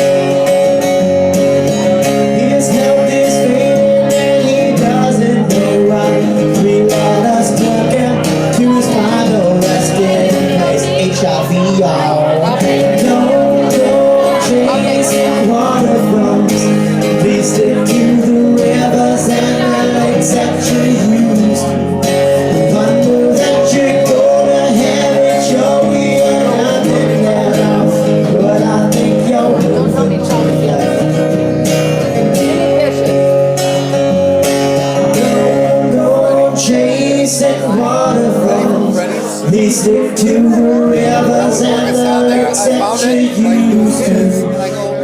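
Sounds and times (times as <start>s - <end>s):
karaoke backing music with guitar: 0.0s - 45.0s
person singing: 0.0s - 45.0s.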